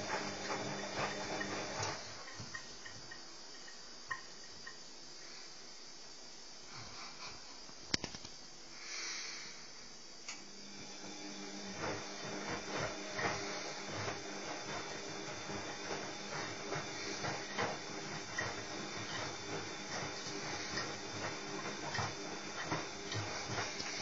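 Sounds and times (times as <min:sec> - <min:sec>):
washing machine low hum: 0:00.0 - 0:05.4, 0:09.6 - 0:24.0.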